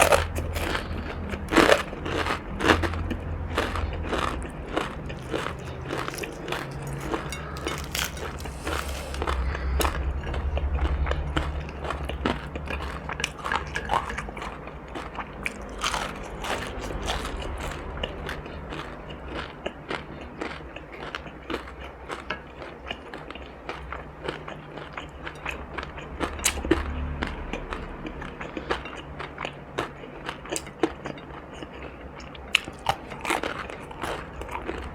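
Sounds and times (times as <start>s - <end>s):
low steady hum: 0.0s - 34.9s
person chewing crunchy food: 0.0s - 34.9s.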